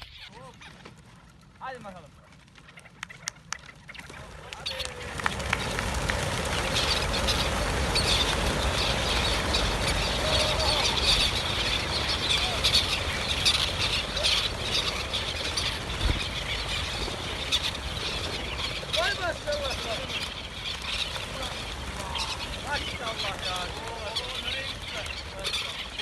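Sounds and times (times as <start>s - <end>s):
partridges calling and chirping: 0.0s - 1.0s, 2.5s - 26.0s.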